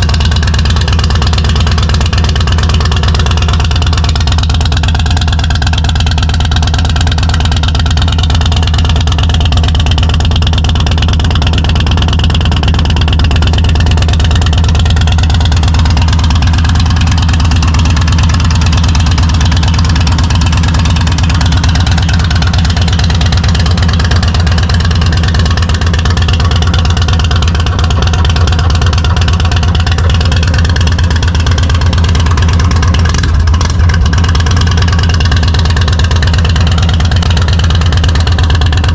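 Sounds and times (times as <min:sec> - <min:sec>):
motorcycle engine exhaust: 0:00.0 - 0:38.9.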